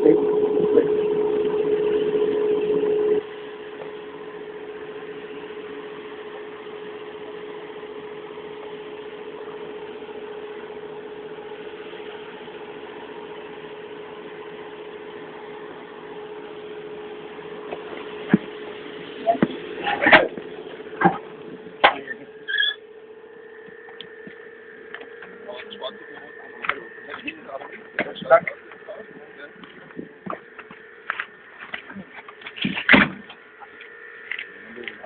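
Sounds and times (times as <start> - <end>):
steam locomotive mechanical hum: 0.0 - 35.0.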